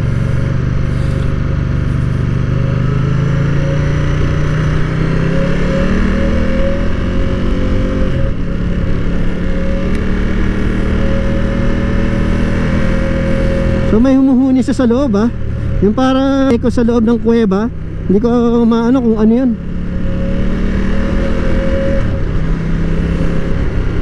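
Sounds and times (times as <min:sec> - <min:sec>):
motorcycle engine running: 0:00.0 - 0:24.0
steady humming drone: 0:00.0 - 0:24.0.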